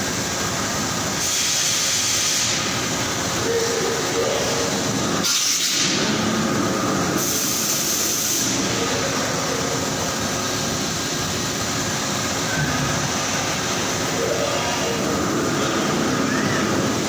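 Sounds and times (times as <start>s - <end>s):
industrial machinery noise: 0.0s - 17.0s
hissing bursts: 0.1s - 17.0s.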